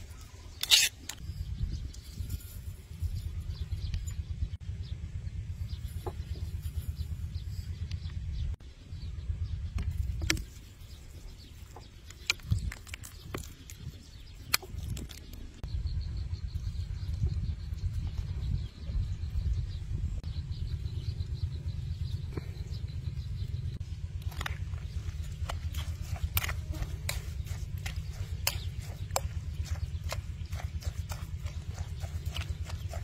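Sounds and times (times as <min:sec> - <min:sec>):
wind buffeting microphone: 0:01.1 - 0:33.0.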